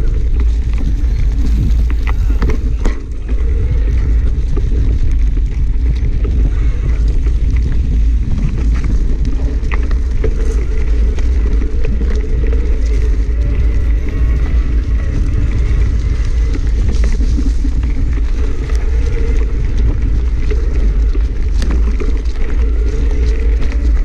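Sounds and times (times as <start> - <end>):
bike clicks and rattles: 0.0 - 24.0
bike rolling over dirt trail: 0.0 - 24.0
wind buffeting microphone: 0.0 - 24.0.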